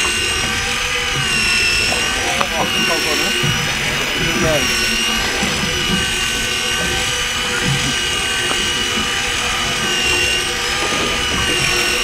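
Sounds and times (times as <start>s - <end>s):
motor whining and rumbling: 0.0s - 12.0s.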